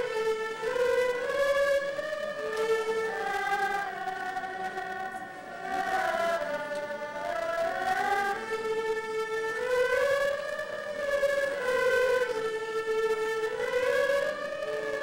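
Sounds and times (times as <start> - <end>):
bowed fiddles playing slow melody: 0.0 - 15.0.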